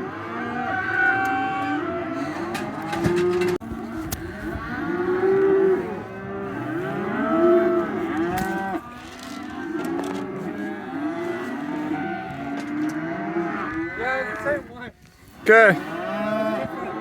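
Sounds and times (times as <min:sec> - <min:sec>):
cattle mooing: 0:00.0 - 0:14.8, 0:15.4 - 0:17.0.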